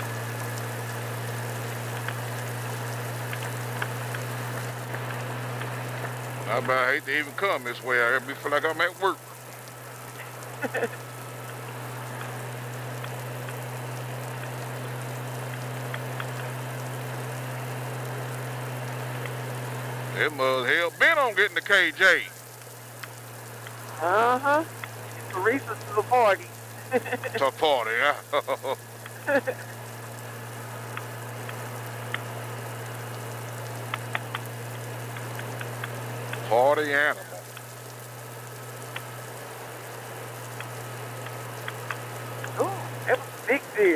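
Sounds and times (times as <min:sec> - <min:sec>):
rain rushing: 0:00.0 - 0:43.9
raindrop ticks: 0:00.0 - 0:43.9
steady low hum: 0:00.0 - 0:43.9.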